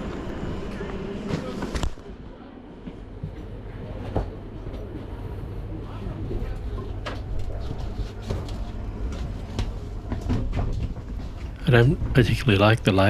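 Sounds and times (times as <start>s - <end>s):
low steady hum in train: 0.0s - 13.0s.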